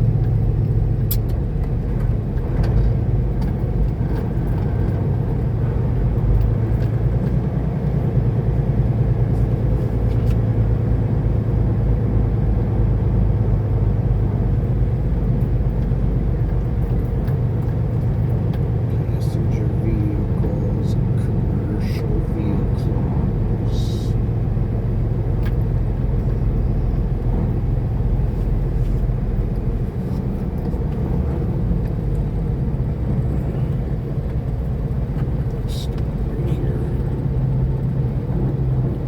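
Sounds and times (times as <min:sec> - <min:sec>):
diesel truck engine drone: 0:00.0 - 0:39.0
road noise: 0:00.0 - 0:39.0.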